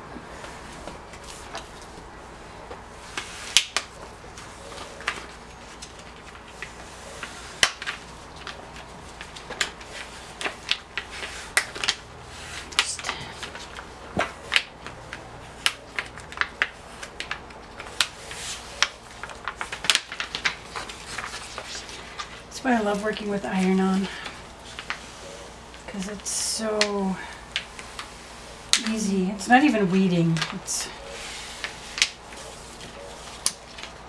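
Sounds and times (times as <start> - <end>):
vinyl sheet crackling and crinkling: 0.0 - 34.0.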